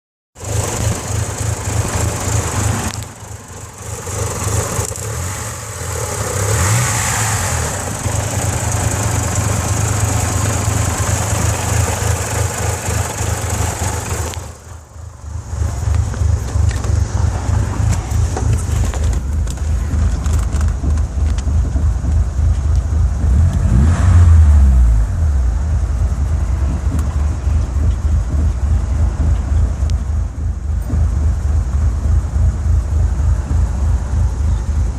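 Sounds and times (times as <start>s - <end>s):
engine running at rough idle: 0.4s - 34.9s.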